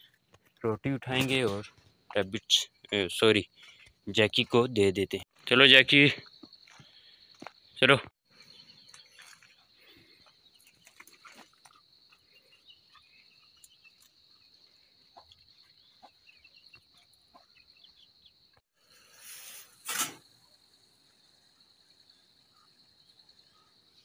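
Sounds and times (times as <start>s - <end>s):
high-pitched insect trill: 2.2s - 24.0s.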